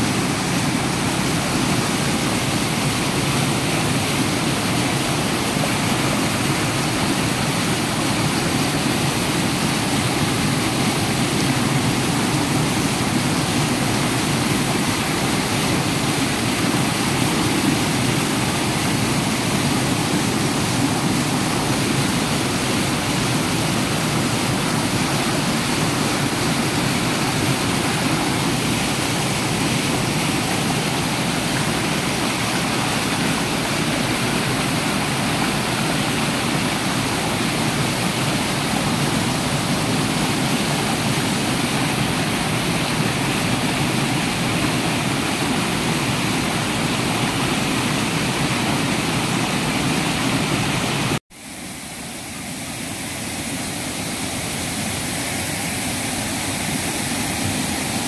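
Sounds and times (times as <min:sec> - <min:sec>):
waterfall rushing over boulders: 0:00.0 - 0:58.0.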